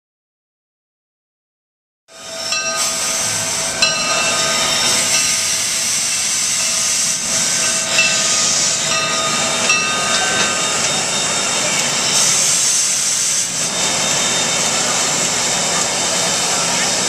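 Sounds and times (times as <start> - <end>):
steam locomotive hissing: 2.1 - 17.0.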